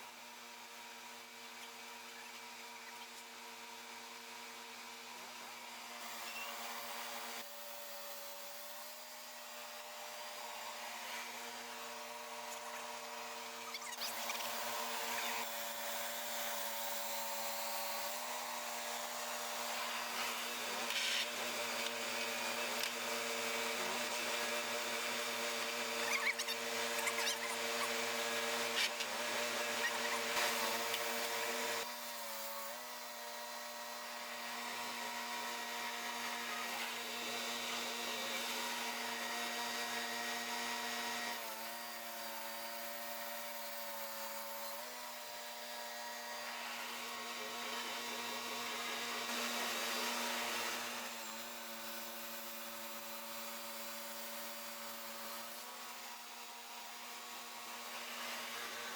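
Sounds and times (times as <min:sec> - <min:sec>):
sawmill machine hum: 0:03.4 - 0:58.9.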